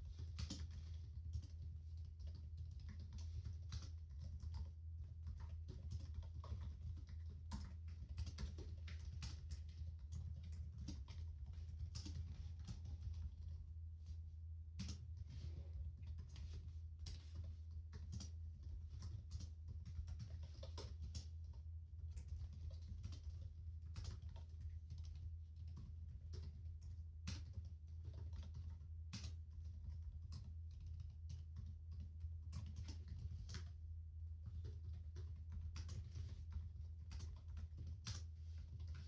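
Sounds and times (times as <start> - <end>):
typing on computer keyboard: 0.0 - 13.6, 14.8 - 33.8, 34.4 - 39.0
constant low hum: 0.0 - 39.0.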